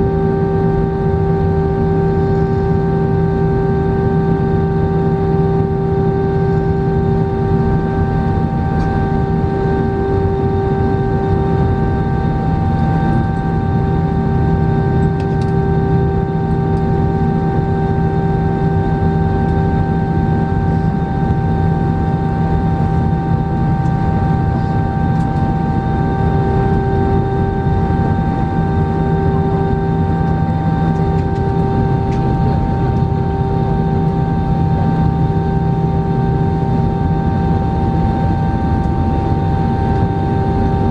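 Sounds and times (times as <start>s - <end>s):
jet engines idling hum and whine: 0.0s - 40.9s.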